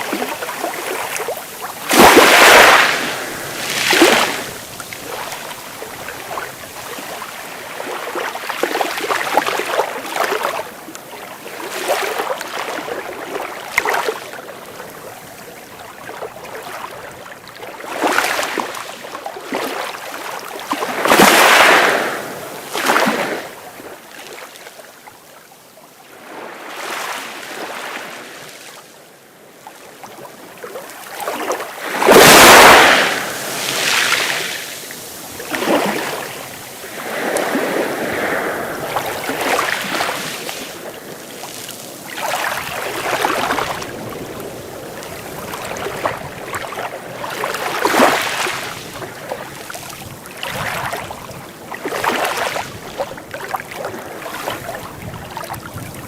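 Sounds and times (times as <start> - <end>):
sea waves breaking: 0.0 - 24.4, 30.0 - 56.0.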